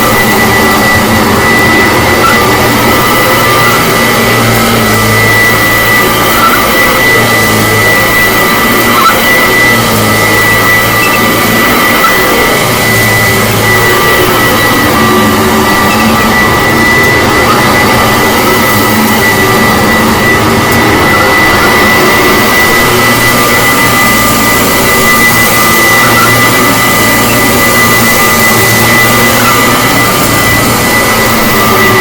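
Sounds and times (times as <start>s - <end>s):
low hum: 0.0s - 32.0s
upright vacuum cleaner running: 0.0s - 32.0s.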